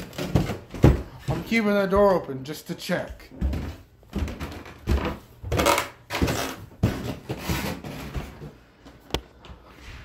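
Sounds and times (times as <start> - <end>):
footsteps down stairs: 0.0 - 10.0.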